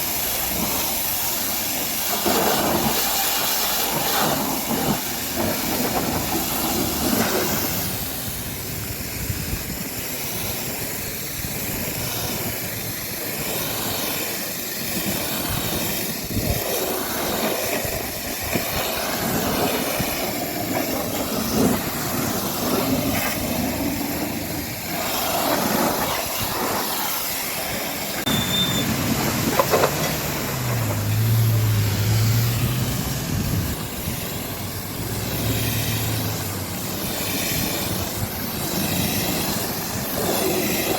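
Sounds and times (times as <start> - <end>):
high-pressure water spray hissing: 0.0 - 40.9.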